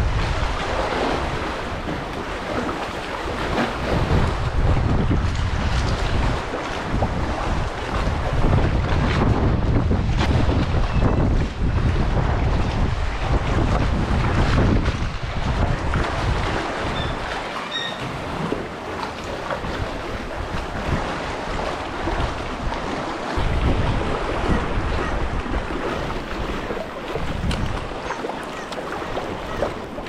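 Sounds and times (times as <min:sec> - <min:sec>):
paddle strokes in water: 0:00.0 - 0:30.0
water sloshing around a kayak: 0:00.0 - 0:30.0
wind buffeting microphone: 0:00.0 - 0:30.0.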